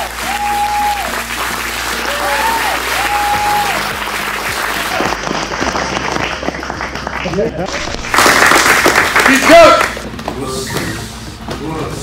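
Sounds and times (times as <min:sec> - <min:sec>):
audience applauding: 0:00.0 - 0:10.0
music: 0:00.0 - 0:12.0.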